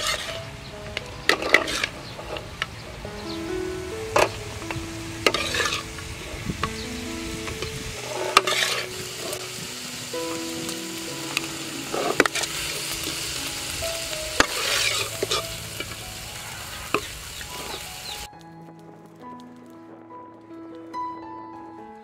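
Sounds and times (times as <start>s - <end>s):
food sizzling in a wok: 0.0s - 18.3s.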